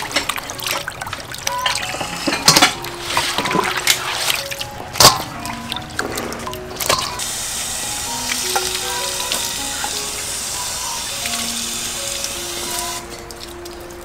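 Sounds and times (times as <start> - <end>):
tap water splashing: 0.0 - 7.3, 8.3 - 10.3, 12.1 - 14.0.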